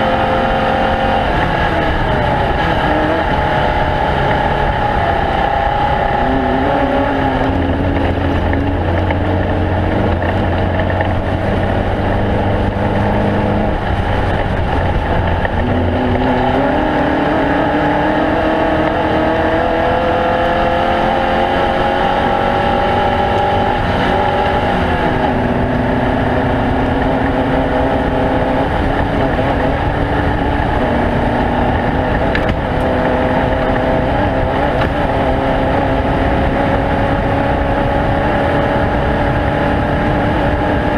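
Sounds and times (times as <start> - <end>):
engines revving: 0.0 - 40.9.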